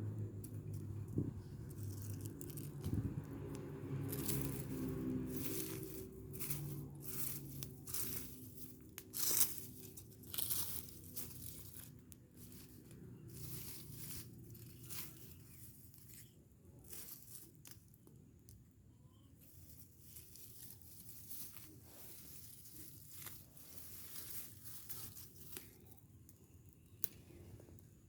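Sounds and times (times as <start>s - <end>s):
trash fire crackling: 0.0s - 18.8s, 19.5s - 28.0s.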